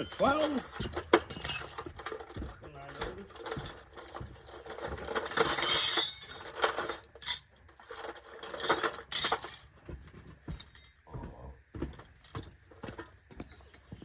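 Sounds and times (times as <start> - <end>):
metal tools clattering: 0.0 - 11.1, 11.9 - 13.2.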